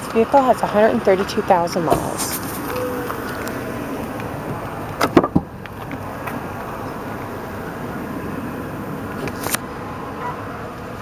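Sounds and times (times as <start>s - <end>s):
vehicle running noise: 0.0s - 11.0s.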